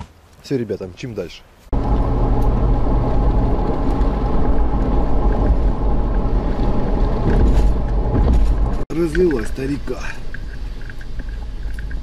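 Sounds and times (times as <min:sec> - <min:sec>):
car engine and road rumble: 0:01.7 - 0:12.0.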